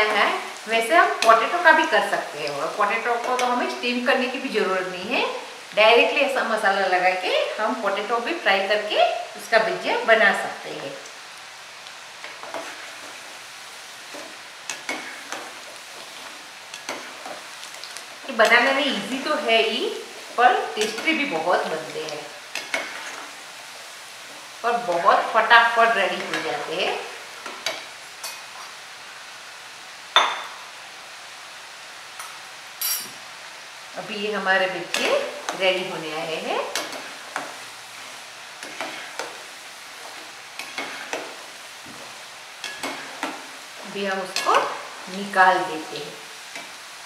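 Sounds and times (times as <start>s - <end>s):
oil sizzling and bubbling: 0.0s - 47.0s.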